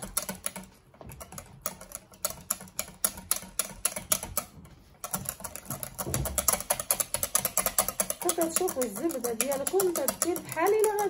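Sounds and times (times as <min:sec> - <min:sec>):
whisk clicking against glass bowl: 0:00.0 - 0:11.0.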